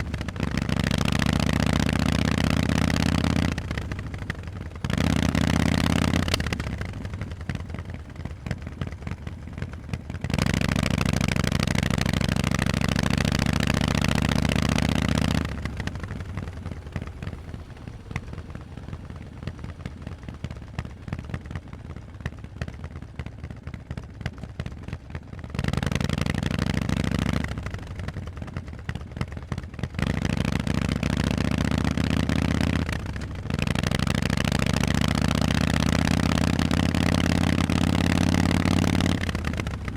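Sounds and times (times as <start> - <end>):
motorcycle engine revving: 0.0 - 23.9, 25.4 - 39.9.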